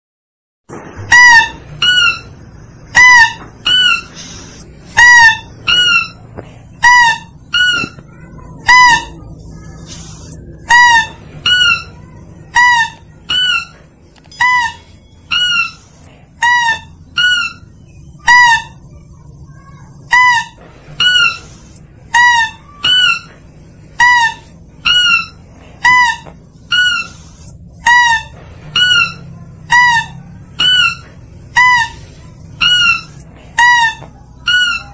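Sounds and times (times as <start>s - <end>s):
high-pitched lure calls: 1.0s - 8.0s, 9.8s - 18.8s, 20.1s - 23.3s, 24.0s - 34.9s.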